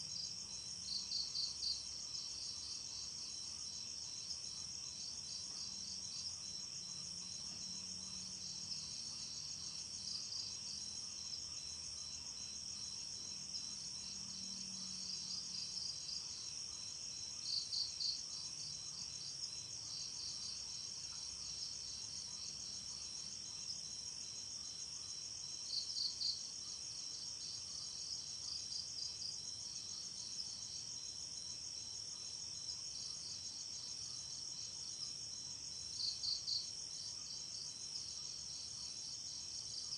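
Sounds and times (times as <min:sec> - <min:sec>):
crickets trilling: 0:00.2 - 0:39.9.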